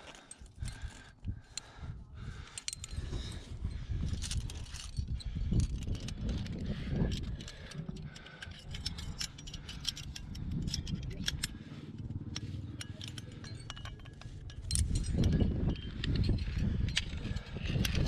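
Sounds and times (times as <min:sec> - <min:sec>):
carabiners clinking and jangling: 0:00.0 - 0:18.0
low rumble: 0:00.2 - 0:18.0.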